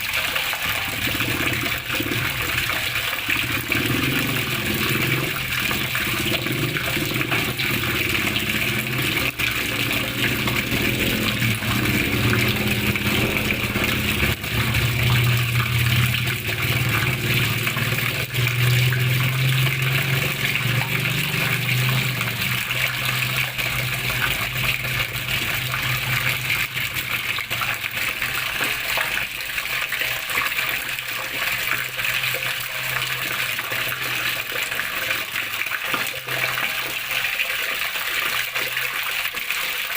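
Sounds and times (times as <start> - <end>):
water flowing and splashing: 0.0 - 39.9.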